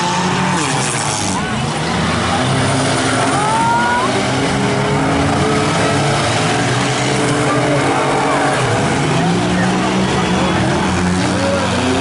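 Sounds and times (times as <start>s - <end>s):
car engines running together: 0.0s - 12.0s.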